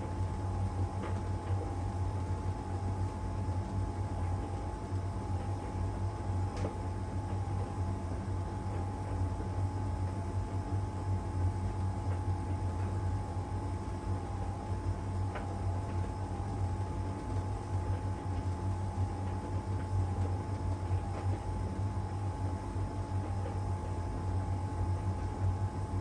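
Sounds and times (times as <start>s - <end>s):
tumble dryer humming and whining: 0.0s - 26.0s.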